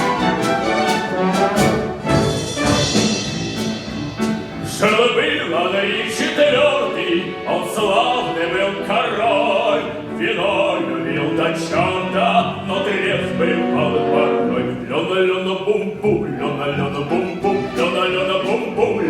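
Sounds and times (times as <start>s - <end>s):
orchestral accompaniment: 0.0s - 19.0s.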